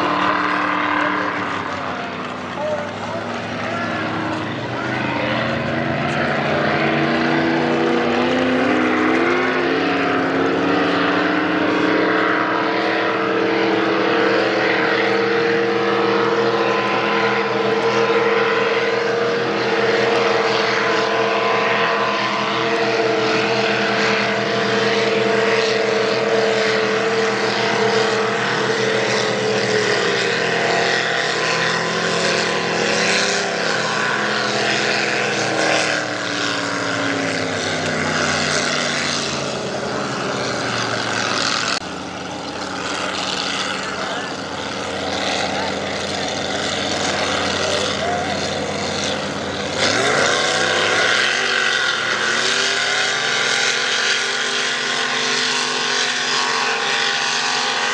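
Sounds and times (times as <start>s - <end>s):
race boat engines at full speed: 0.0s - 57.9s.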